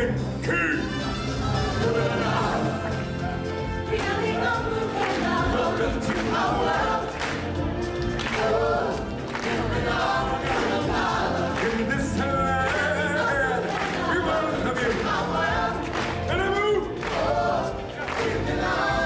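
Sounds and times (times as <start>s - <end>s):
choir singing with instruments: 0.1s - 19.0s.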